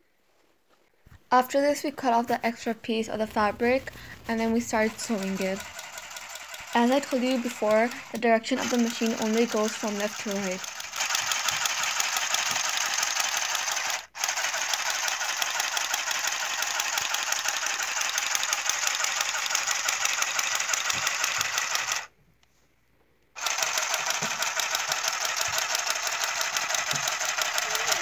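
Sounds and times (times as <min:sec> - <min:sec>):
handheld sewing machine stitching: 0:03.7 - 0:22.1, 0:23.4 - 0:28.0.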